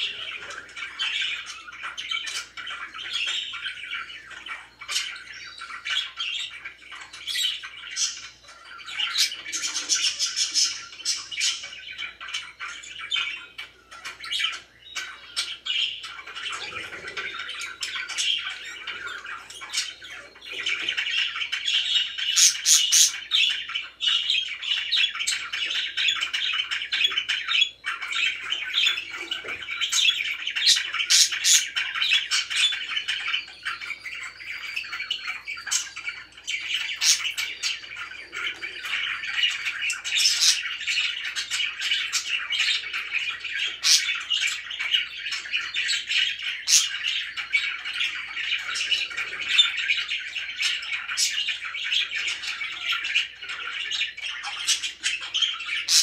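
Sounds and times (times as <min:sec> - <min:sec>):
budgerigars chattering and warbling: 0:00.0 - 0:56.0
sharp bird chirps and squawks: 0:00.0 - 0:56.0.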